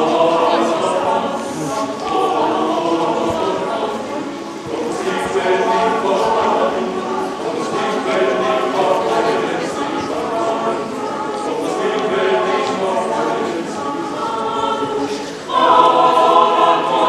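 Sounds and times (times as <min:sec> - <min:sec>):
mixed choir singing: 0:00.0 - 0:17.0.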